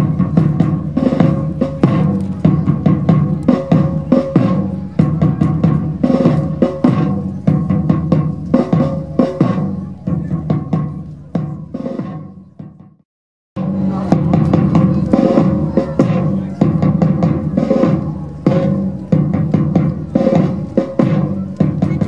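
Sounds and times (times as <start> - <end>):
drums beating: 0.0 - 13.0, 13.6 - 22.0.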